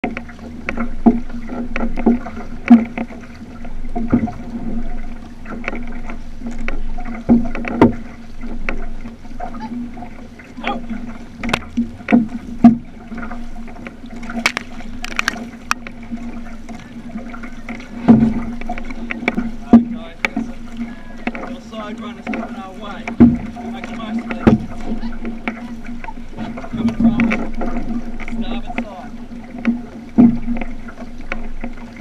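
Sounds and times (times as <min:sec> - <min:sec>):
paddle splashes and knocks: 0:00.0 - 0:32.0
water splashing along canoe hull: 0:00.0 - 0:32.0.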